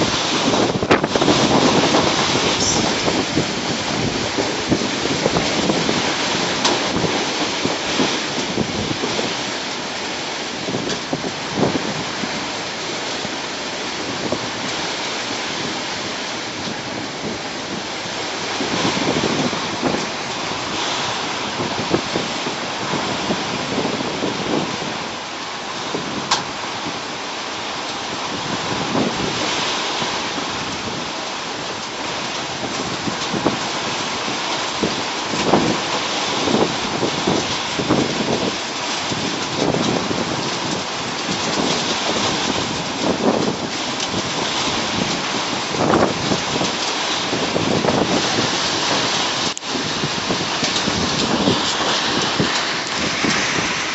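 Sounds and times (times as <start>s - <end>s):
heavy rain: 0.0s - 53.9s
wind buffeting the microphone: 0.0s - 53.9s.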